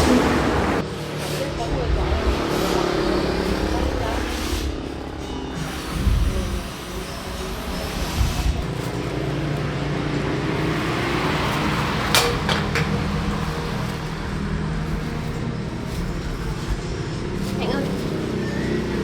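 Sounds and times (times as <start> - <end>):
engine hum: 0.0 - 19.0
road noise: 0.0 - 19.0.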